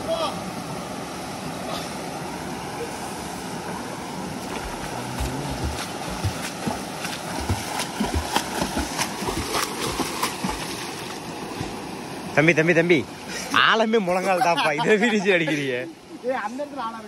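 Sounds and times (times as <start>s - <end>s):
swimmer splashing water: 1.7s - 15.6s.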